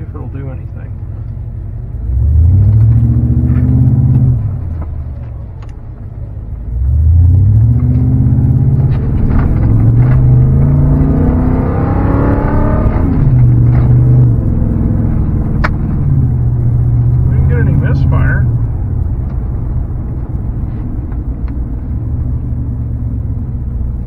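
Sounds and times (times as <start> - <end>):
truck engine accelerating hard: 0.0 - 24.0.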